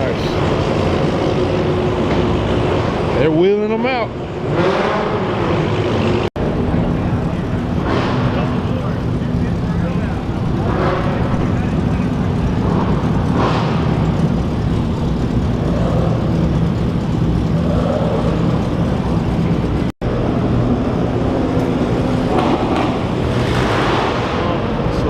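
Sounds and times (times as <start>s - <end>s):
car engines droning: 0.0s - 25.0s.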